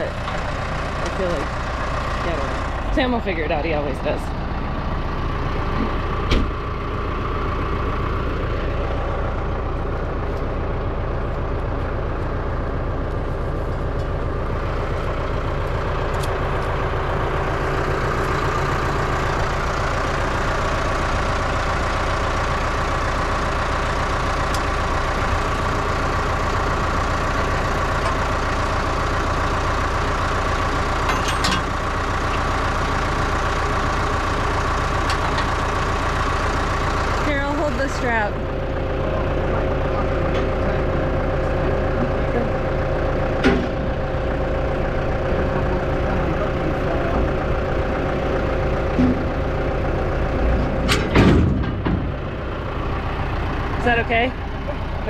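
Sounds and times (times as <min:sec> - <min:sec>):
farm machine engine idling: 0:00.0 - 0:55.0.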